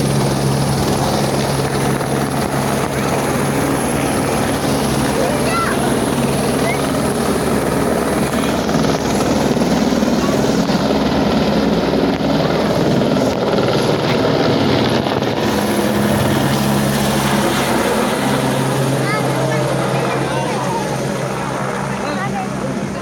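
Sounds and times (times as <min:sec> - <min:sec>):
helicopter rotor and engine: 0:00.0 - 0:23.0.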